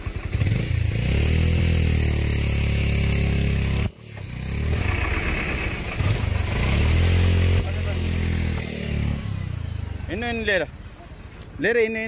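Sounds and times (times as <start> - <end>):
heavy vehicle engine running: 0.0 - 10.6.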